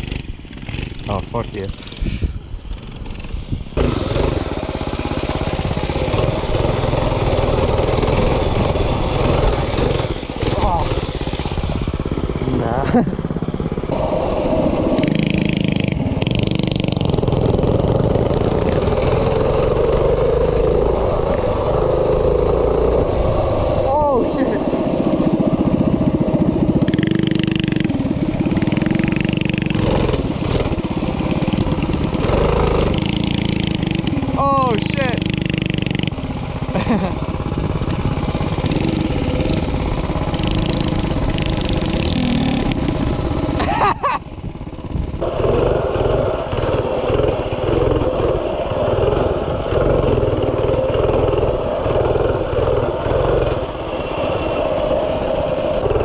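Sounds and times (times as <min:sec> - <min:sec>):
minibike engine running: 0:00.0 - 0:56.0.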